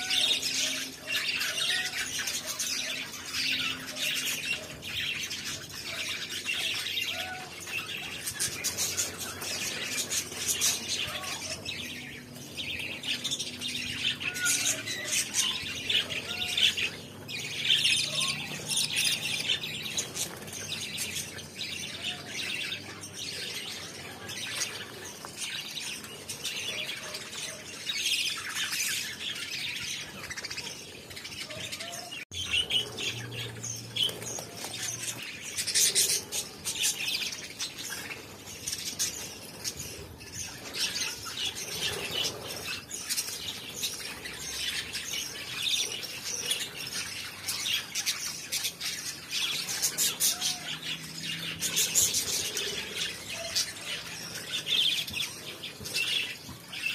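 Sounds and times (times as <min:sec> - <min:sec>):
flock of budgerigars chattering: 0:00.0 - 0:56.9.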